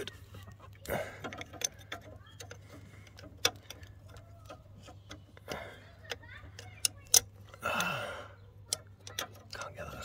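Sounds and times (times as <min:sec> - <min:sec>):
spanner clicking on metal: 0:01.2 - 0:07.9, 0:08.7 - 0:10.0.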